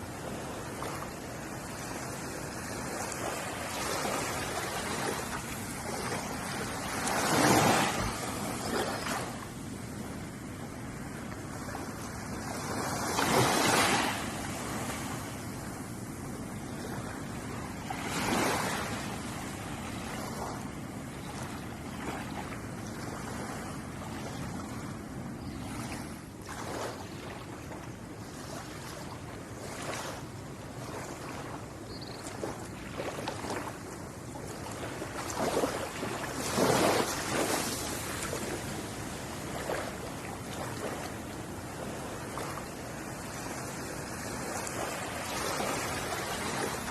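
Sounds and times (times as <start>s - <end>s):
ocean waves on shore: 0.0s - 46.9s.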